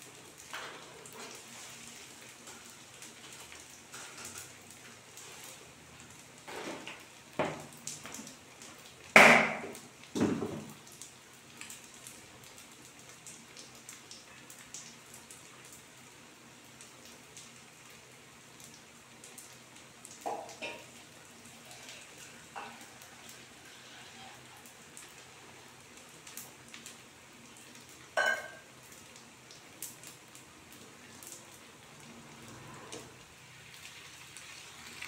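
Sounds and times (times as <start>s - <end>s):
fritters sizzling in hot oil: 0.0s - 35.0s.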